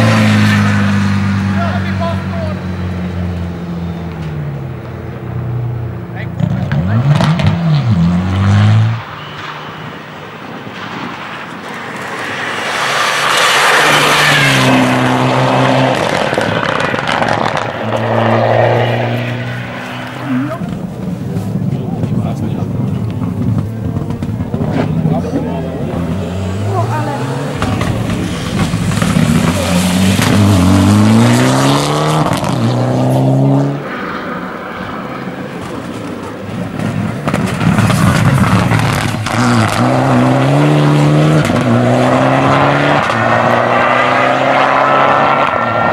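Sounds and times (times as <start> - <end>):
car passing with tyre noise: 0.0 - 45.9
rally car engine: 0.0 - 45.9.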